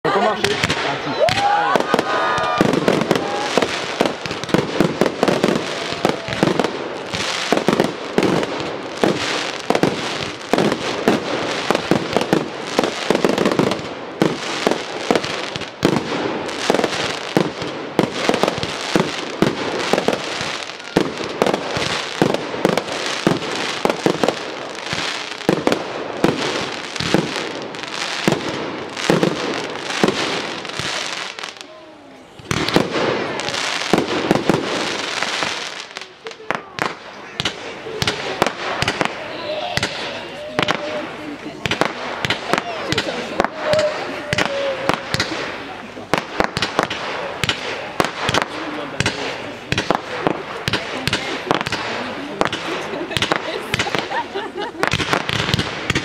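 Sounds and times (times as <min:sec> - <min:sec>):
fireworks bangs and crackle: 0:00.1 - 0:56.0.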